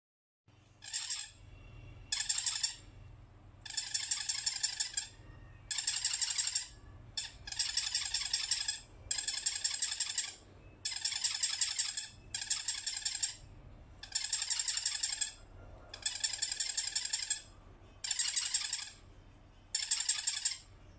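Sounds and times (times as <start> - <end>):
soft toy squeaking: 0.6 - 20.9.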